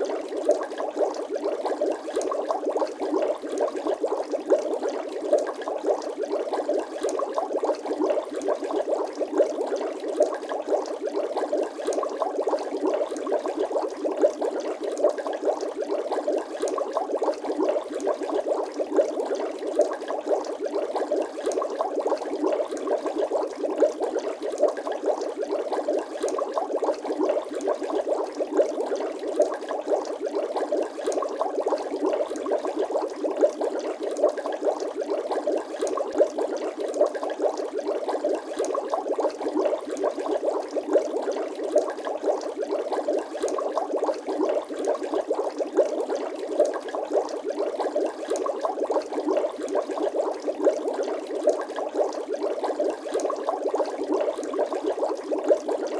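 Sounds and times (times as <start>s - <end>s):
water bubbling and gurgling: 0.0s - 55.9s.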